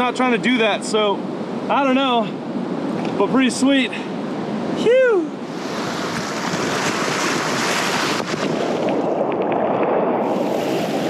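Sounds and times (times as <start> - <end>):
ocean surf washing over rocks: 1.3 - 11.0.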